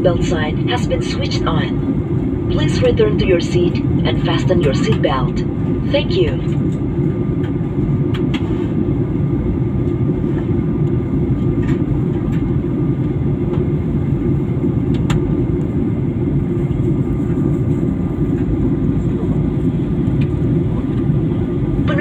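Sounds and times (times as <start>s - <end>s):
airliner engine and airflow rumble: 0.0s - 22.0s
faint constant hum: 0.0s - 22.0s.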